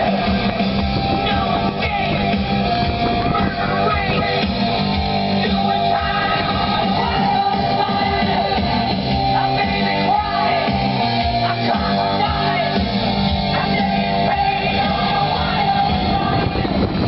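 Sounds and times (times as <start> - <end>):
music with singing voice: 0.0 - 17.0.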